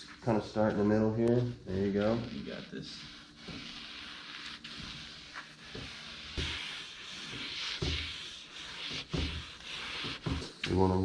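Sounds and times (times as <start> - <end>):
fabric rubbing hiss: 0.0 - 11.0.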